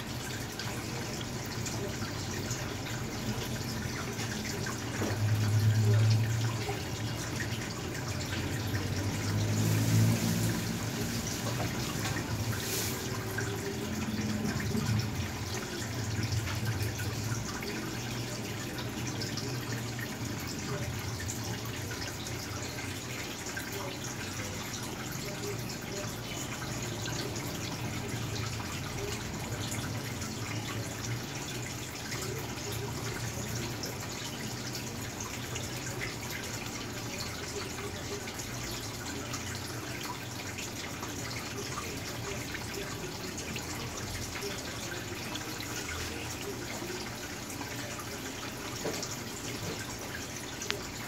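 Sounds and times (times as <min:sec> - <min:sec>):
sponge filter bubbling: 0:00.0 - 0:51.0
water trickling and splashing: 0:00.0 - 0:51.0.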